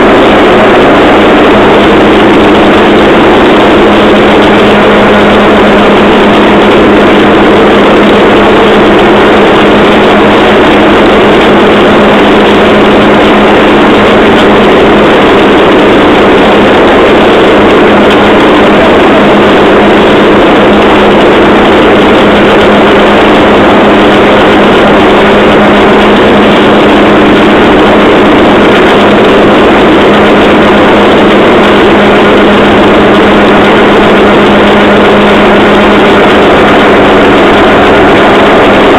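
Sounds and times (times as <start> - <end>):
motorised rail trolley running: 0.0 - 38.9.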